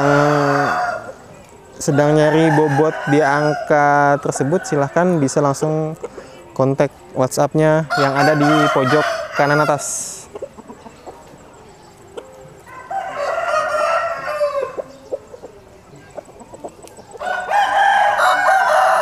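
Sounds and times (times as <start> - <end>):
roosters crowing: 0.0 - 6.4, 7.5 - 19.0.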